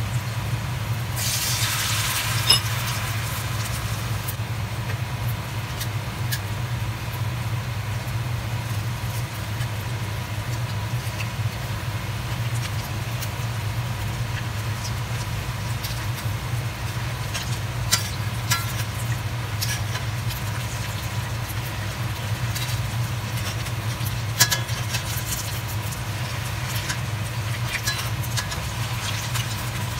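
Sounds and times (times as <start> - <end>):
food sizzling in oil: 0.0 - 4.4, 5.0 - 29.9.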